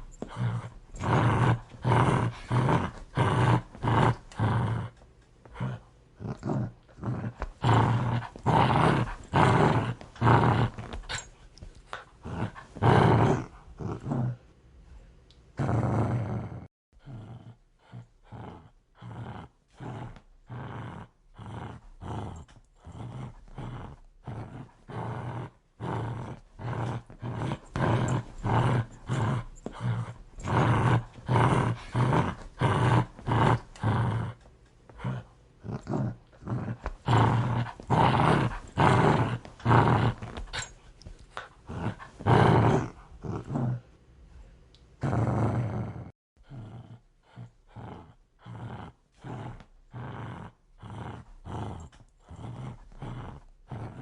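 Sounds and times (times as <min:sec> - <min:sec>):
dog growling aggressively: 0:00.0 - 0:11.3, 0:11.9 - 0:14.4, 0:15.6 - 0:43.9, 0:45.0 - 0:54.0.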